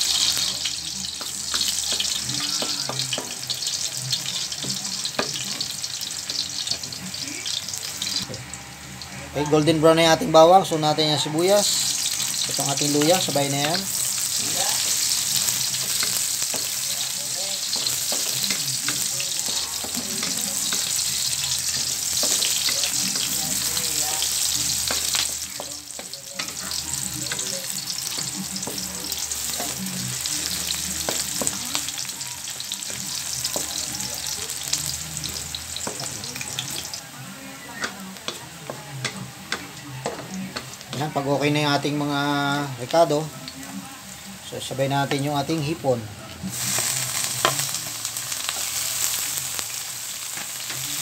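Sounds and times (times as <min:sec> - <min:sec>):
vegetables sizzling in hot oil: 0:00.0 - 0:51.0.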